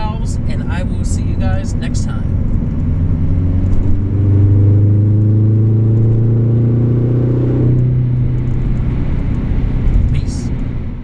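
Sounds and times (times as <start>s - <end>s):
turbocharged car engine accelerating: 0.0s - 11.0s.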